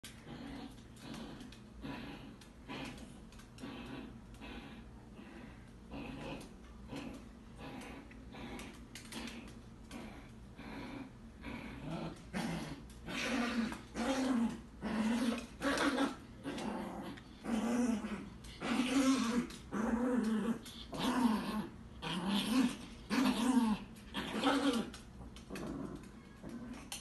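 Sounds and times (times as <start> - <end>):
small dog growling: 0.0 - 27.0.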